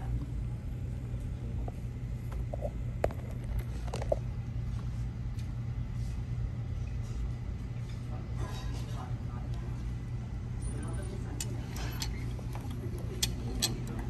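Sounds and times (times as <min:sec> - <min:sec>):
restaurant room noise rumble: 0:00.0 - 0:14.0.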